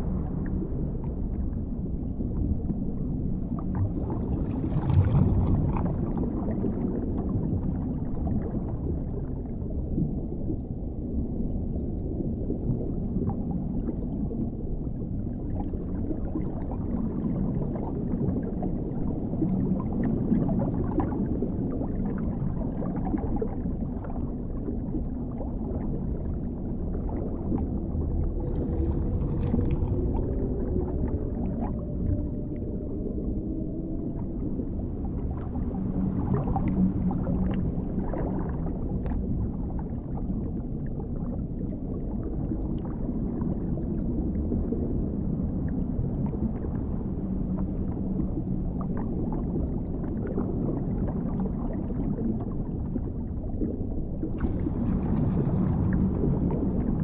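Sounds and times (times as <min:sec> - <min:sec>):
muffled underwater rumble: 0:00.0 - 0:57.0
water gurgling: 0:00.0 - 0:57.0.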